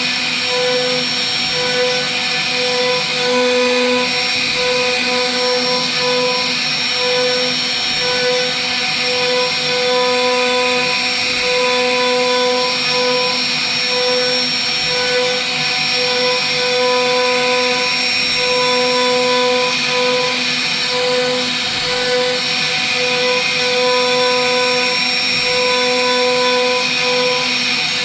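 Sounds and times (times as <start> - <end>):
wood router high whine: 0.0 - 28.0.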